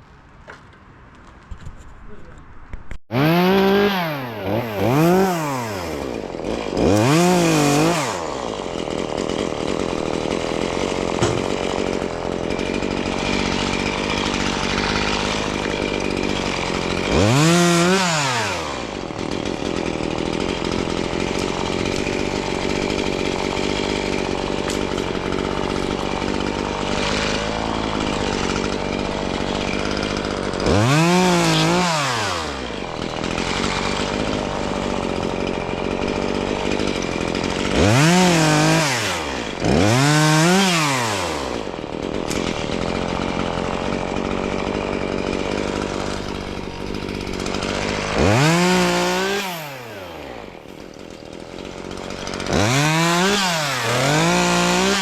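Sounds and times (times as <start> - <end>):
chainsaw engine idling and revving: 3.1 - 55.0.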